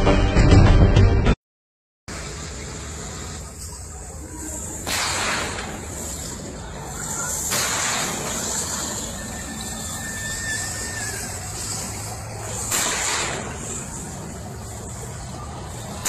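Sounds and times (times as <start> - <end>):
armoured vehicle rumbling: 2.1 - 16.0
sudden loud burst of noise: 2.1 - 16.0.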